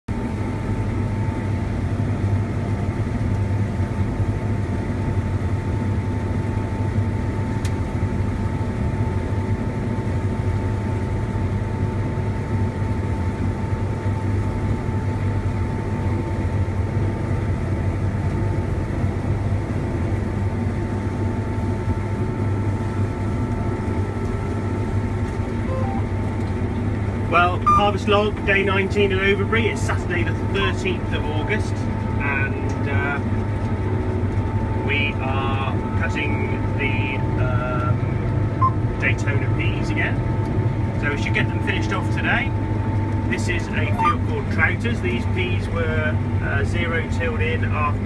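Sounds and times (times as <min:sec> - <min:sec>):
combine harvester drone: 0:00.1 - 0:48.0.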